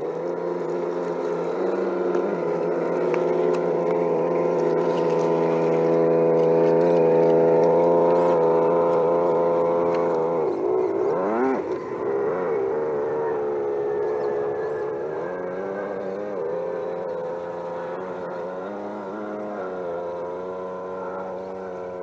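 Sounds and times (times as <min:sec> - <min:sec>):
simulated engine sound: 0:00.0 - 0:22.0.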